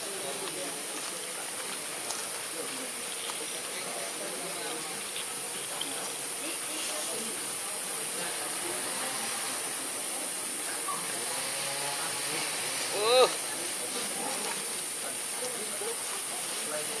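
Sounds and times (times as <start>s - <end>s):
faint distant voices: 0.0s - 17.0s
steady high hiss: 0.0s - 17.0s.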